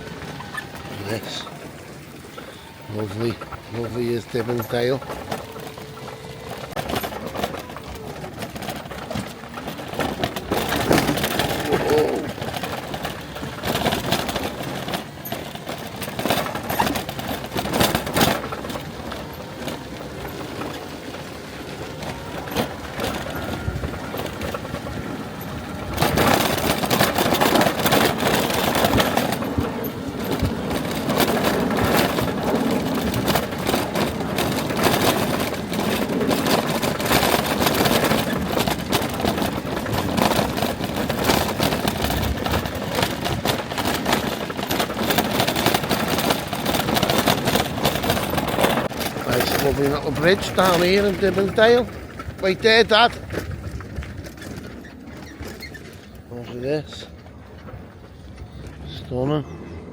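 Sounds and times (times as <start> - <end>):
rattling and crunching: 0.0 - 59.9
vehicle engine and road noise: 0.0 - 59.9.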